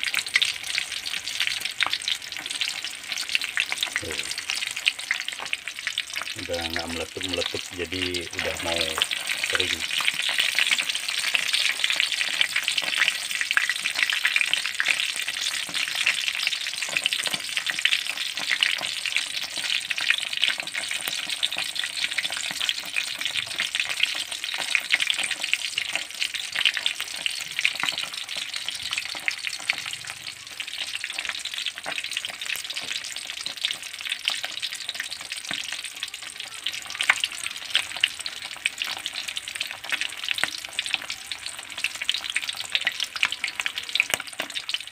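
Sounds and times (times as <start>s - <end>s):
fish sizzling in hot oil: 0.0s - 44.9s.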